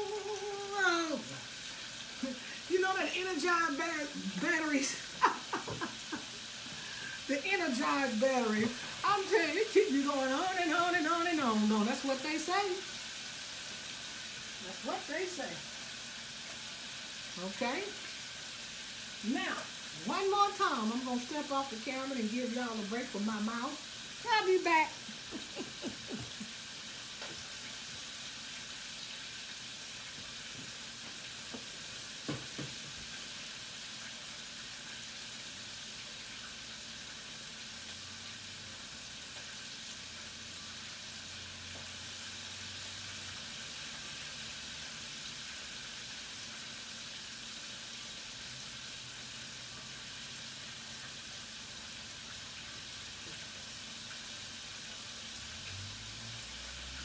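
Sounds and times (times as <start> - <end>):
hot oil sizzling in a fryer: 0.0 - 57.0.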